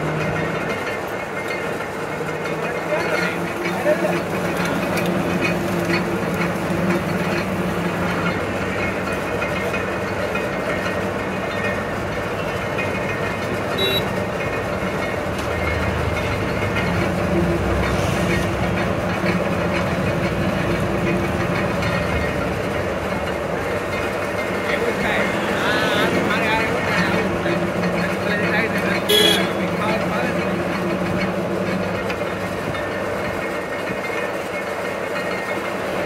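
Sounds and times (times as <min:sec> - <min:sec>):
crushing machine droning: 0:00.0 - 0:36.0.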